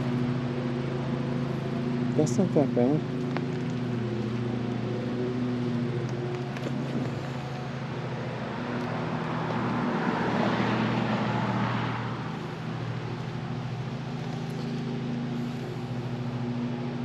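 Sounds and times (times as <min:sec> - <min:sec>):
low engine hum: 0:00.0 - 0:17.0
road vehicle passing: 0:00.0 - 0:17.0.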